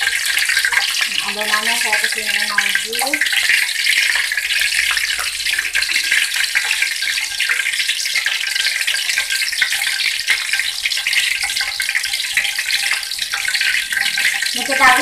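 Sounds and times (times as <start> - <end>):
fritters deep-frying in oil: 0.0 - 15.0.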